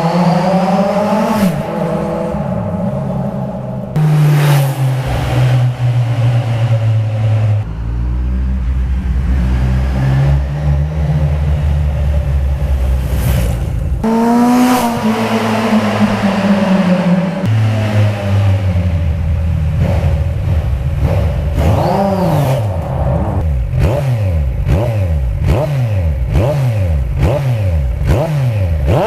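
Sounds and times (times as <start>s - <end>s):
motorcycle engine running: 1.1s - 29.0s.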